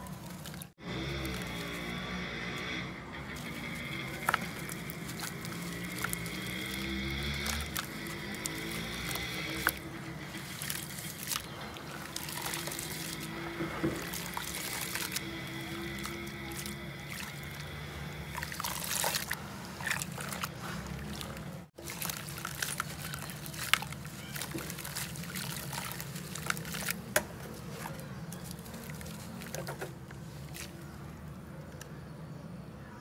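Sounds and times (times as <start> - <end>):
crumbling chunks crackling in water: 0.0 - 2.4, 3.3 - 31.0
hands sloshing water in a basin: 3.4 - 31.1.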